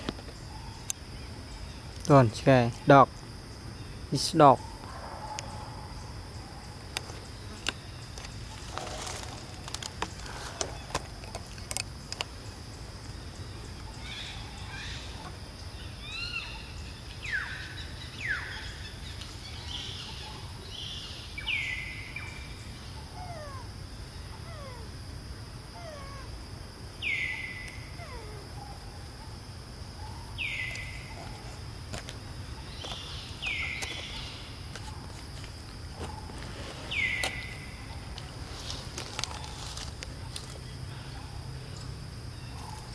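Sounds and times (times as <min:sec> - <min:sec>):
background hum: 0:00.0 - 0:42.9.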